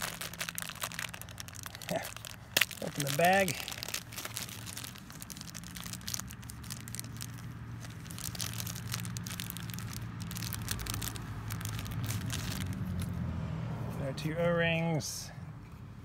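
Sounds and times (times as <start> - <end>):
plastic bag crinkling: 0.0 - 13.2.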